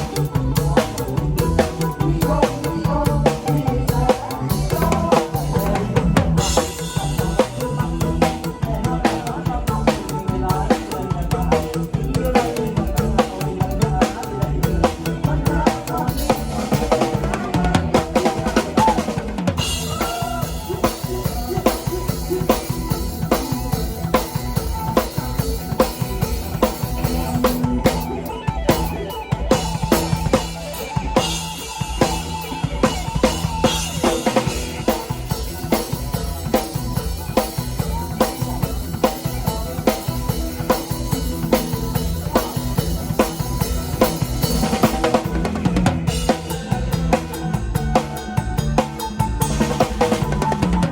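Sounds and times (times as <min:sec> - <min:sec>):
drum kit steady beat: 0:00.0 - 0:50.9
melodic music lines: 0:00.0 - 0:50.9.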